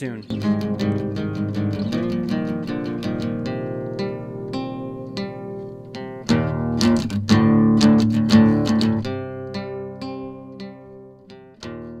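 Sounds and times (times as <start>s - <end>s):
acoustic guitar: 0.3s - 12.0s.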